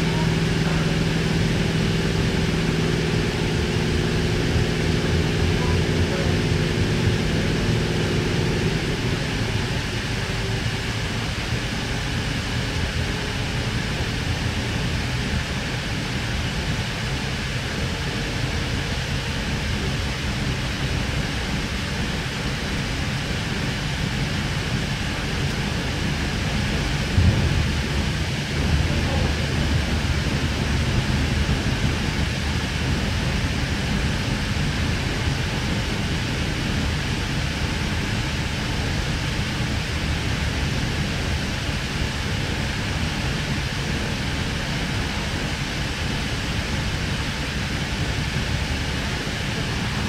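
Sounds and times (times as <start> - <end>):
low electric hum: 0.0 - 50.0
train wheels rumbling on track: 0.0 - 50.0.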